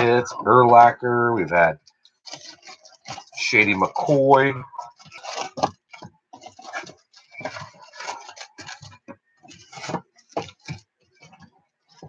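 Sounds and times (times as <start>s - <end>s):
foil card packs crinkling: 1.5s - 12.0s.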